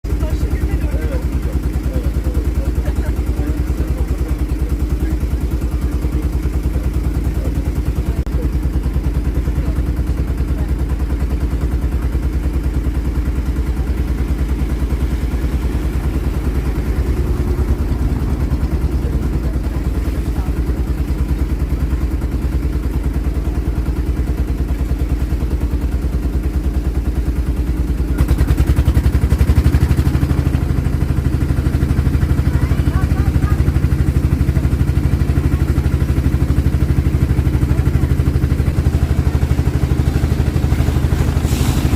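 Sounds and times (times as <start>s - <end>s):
boat engine throbbing: 0.0s - 41.9s.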